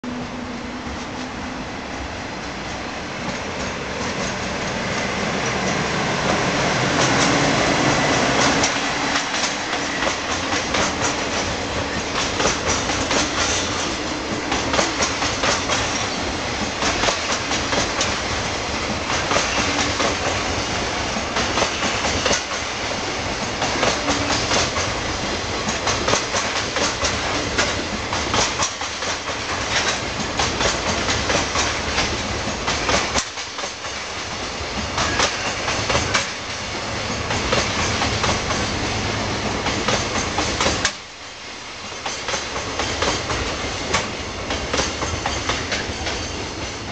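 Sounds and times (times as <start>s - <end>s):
freight train passing: 0.0s - 46.9s
wheels clacking over rail joints: 2.6s - 41.1s, 41.9s - 46.9s.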